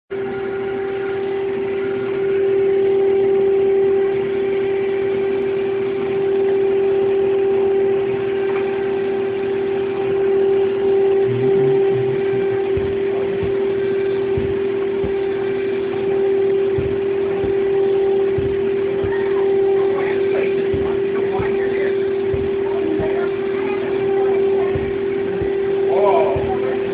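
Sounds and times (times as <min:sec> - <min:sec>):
milling spindle high whine: 0:00.1 - 0:26.9.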